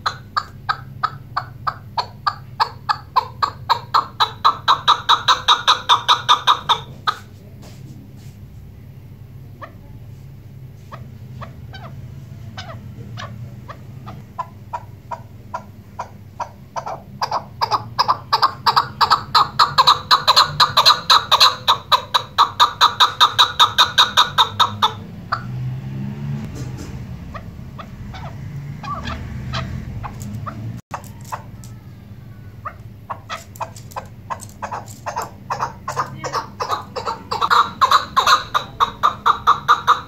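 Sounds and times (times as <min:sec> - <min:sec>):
partridge clucking calls: 0:00.0 - 0:07.8, 0:09.4 - 0:10.0, 0:10.6 - 0:25.5, 0:26.5 - 0:40.0.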